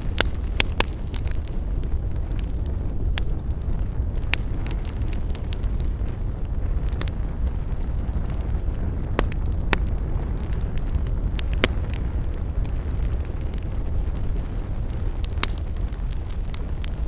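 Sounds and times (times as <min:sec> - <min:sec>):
fire crackles and pops: 0:00.0 - 0:17.0
fire flames rumbling: 0:00.0 - 0:17.0.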